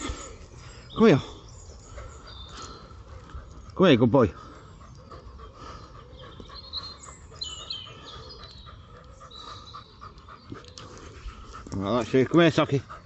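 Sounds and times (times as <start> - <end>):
birds chirping: 0.0 - 13.0
dog panting: 0.0 - 13.0.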